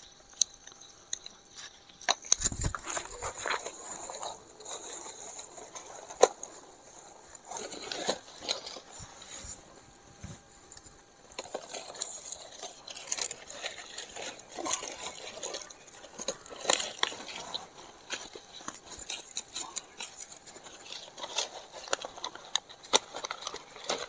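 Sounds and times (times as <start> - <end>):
sharp leaf crackles: 0.0 - 24.0
banana leaves rustling: 1.4 - 24.0.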